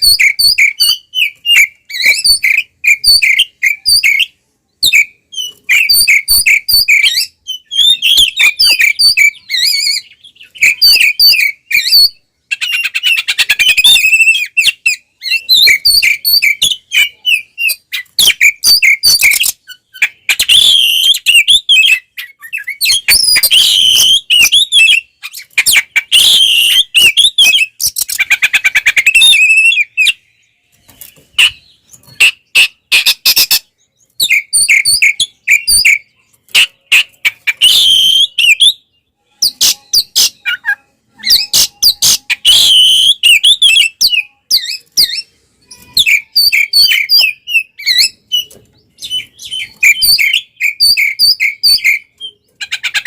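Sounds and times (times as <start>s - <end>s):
bird singing whistled phrases: 0.0s - 30.5s, 31.4s - 36.3s, 36.9s - 53.0s
bird harsh chattering: 4.9s - 30.2s, 31.3s - 38.8s, 39.4s - 53.0s.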